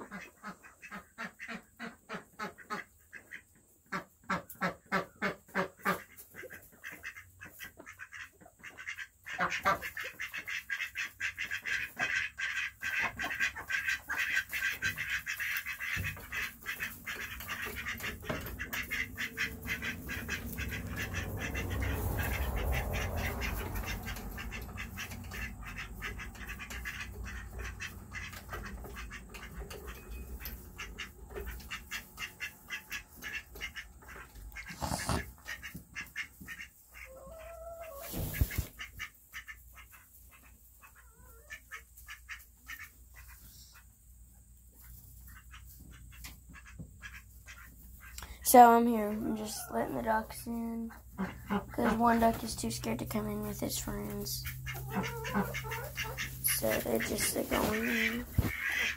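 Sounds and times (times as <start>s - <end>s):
ducks quacking: 0.0s - 44.1s, 44.7s - 58.9s.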